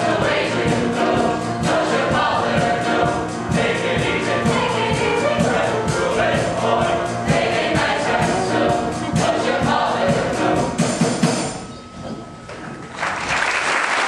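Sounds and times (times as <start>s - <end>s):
group singing together: 0.0s - 11.5s
music with steady beat: 0.0s - 12.4s.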